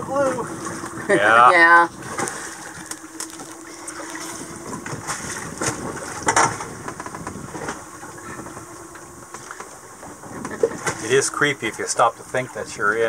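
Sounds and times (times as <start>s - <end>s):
faint steady hum: 0.0s - 13.0s
sea water sloshing against hull: 0.0s - 13.0s.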